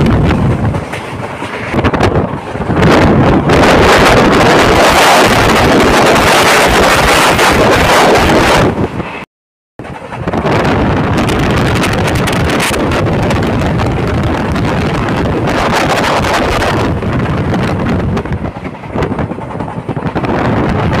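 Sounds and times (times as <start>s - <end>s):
wind buffeting microphone: 0.0s - 9.2s, 9.8s - 21.0s
train running on track: 0.0s - 21.0s.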